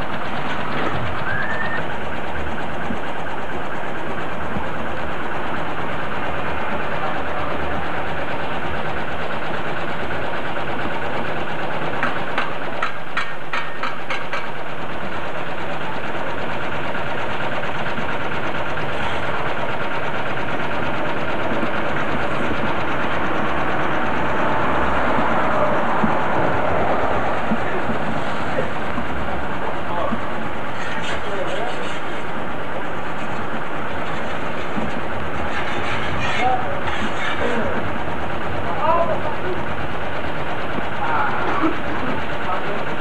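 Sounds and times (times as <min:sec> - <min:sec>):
machine running: 0:00.0 - 0:43.0.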